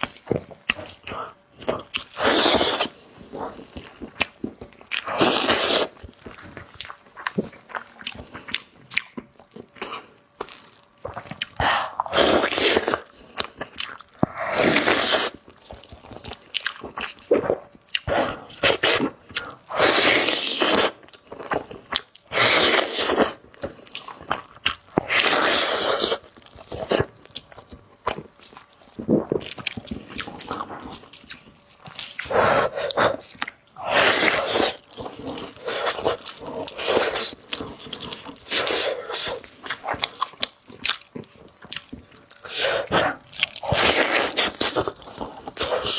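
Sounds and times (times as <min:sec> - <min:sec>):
biting and chewing food: 0:00.0 - 0:45.9.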